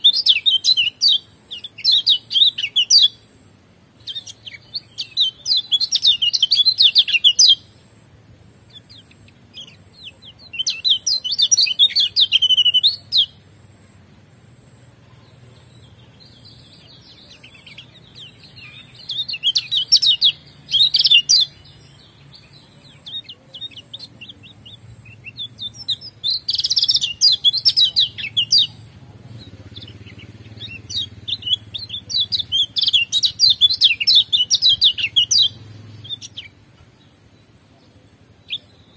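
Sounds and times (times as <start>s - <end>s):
bird twittering: 0.0s - 7.9s, 8.6s - 13.4s, 15.1s - 38.9s.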